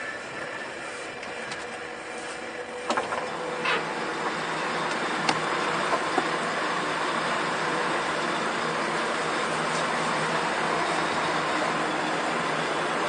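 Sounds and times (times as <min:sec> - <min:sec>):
truck engines idling: 0:00.0 - 0:13.0.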